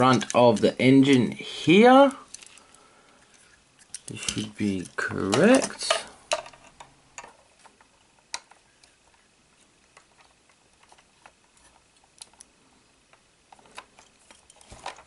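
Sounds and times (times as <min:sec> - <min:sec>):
plastic parts clicking: 0:00.0 - 0:01.4, 0:02.2 - 0:09.2, 0:09.8 - 0:15.0.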